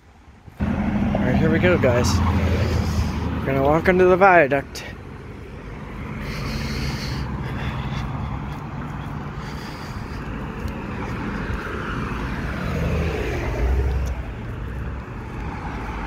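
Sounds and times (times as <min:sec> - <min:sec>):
cars driving past: 0:00.2 - 0:16.0.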